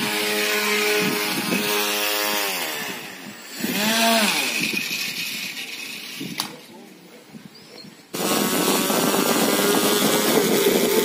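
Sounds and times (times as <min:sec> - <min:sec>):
electric motors whining: 0:00.0 - 0:06.4, 0:08.2 - 0:11.0.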